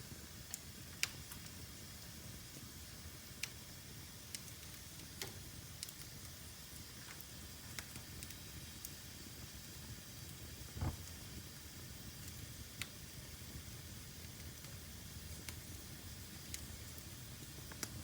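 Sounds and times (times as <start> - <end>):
fire crackling with pops: 0.0 - 18.0.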